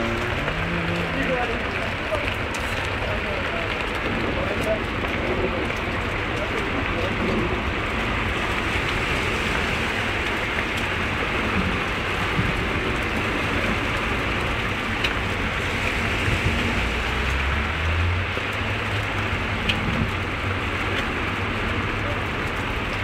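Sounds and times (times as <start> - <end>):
car driving through water: 0.0 - 23.0
heavy rain pouring: 0.0 - 23.0.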